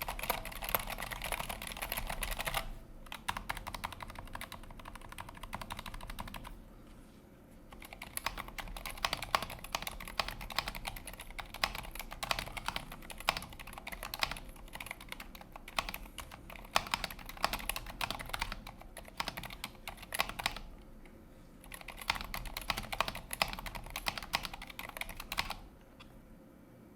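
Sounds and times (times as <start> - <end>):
typing on mechanical keyboard: 0.0 - 6.6, 7.7 - 20.7, 21.6 - 25.7.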